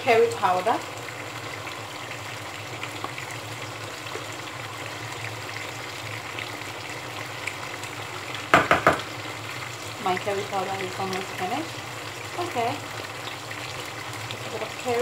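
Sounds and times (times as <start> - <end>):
sauce simmering in a pot: 0.0 - 15.0.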